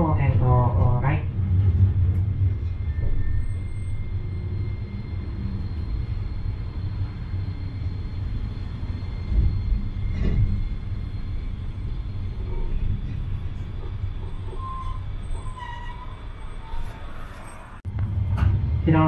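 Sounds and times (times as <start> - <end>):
streetcar wheels and motor rumbling: 0.0 - 19.0.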